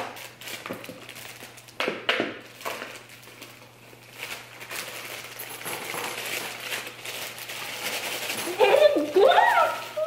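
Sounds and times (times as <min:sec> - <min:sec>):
plastic bag crinkling: 0:00.0 - 0:01.8, 0:02.4 - 0:10.0.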